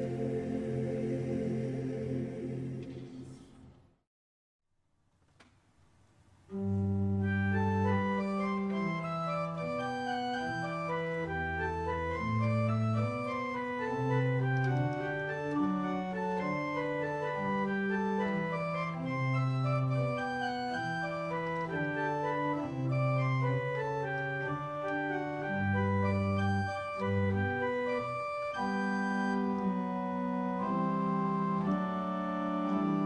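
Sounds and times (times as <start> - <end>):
organ playing slow chords: 6.5 - 33.0.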